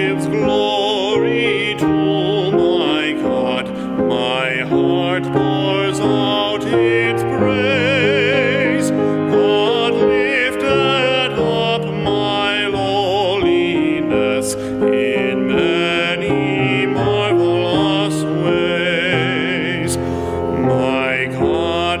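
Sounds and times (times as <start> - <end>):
man singing a hymn: 0.0 - 22.0
piano chords: 0.0 - 22.0.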